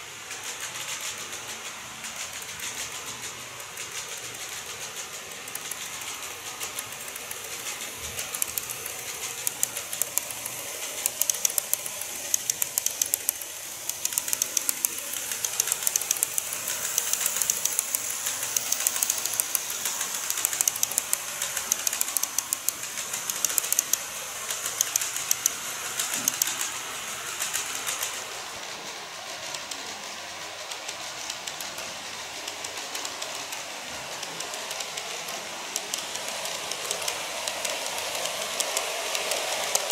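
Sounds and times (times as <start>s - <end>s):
high rattle: 0.0s - 39.9s
model train wheels clicking: 0.0s - 39.9s.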